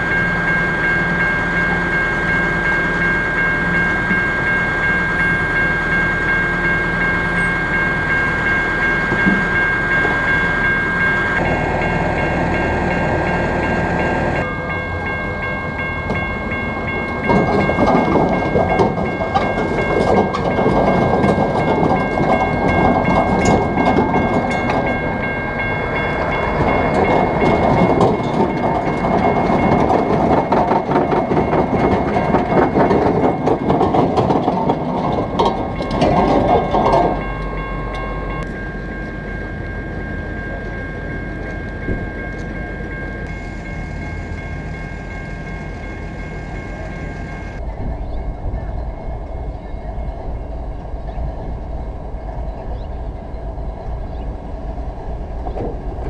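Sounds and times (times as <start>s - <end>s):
steady high tone: 0.0s - 55.4s
freight train rumbling past: 0.0s - 56.0s
wheels clacking over rail joints: 6.6s - 56.0s.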